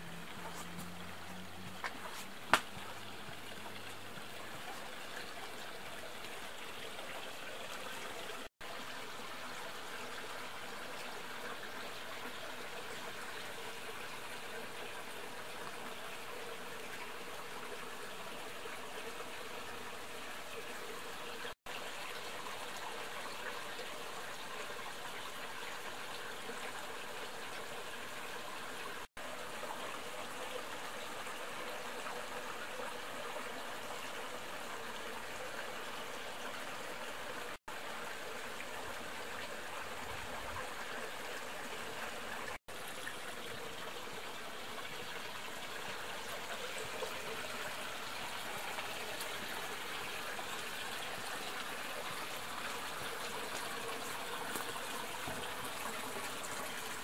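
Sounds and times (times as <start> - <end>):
mountain stream flowing: 0.0 - 57.0.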